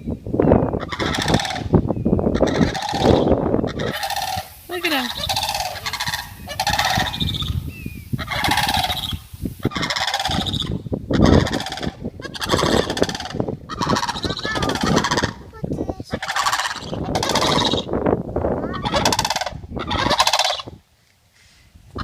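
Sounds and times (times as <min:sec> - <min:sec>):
cranes rattling calls: 0:00.8 - 0:15.5, 0:16.1 - 0:17.9, 0:18.7 - 0:20.7.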